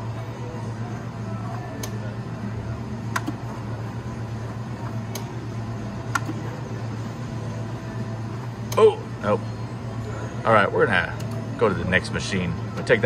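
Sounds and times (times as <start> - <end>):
casino background hum: 0.0 - 13.0.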